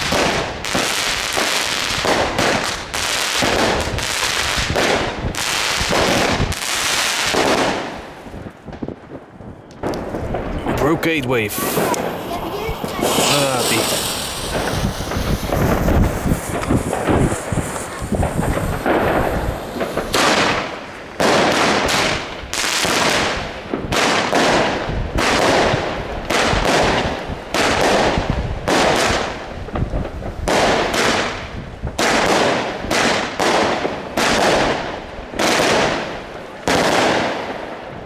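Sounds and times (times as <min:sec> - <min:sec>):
fireworks shots firing: 0:00.0 - 0:38.0.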